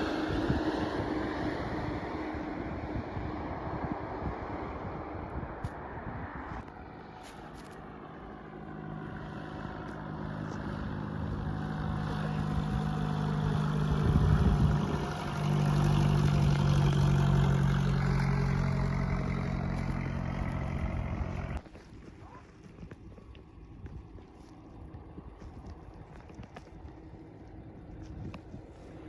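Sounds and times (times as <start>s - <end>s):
airplane engines passing: 0.0s - 22.5s, 23.1s - 29.0s.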